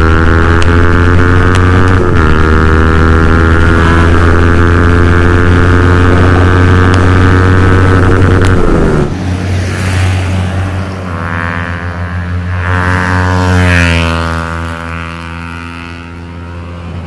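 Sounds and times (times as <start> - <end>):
motorcycle engine droning: 0.0 - 17.0
passing traffic: 0.0 - 17.0.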